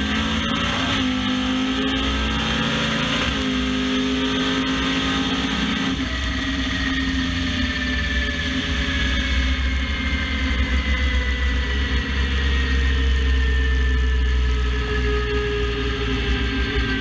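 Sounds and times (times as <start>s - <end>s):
drag car running at speed: 0.0s - 17.0s.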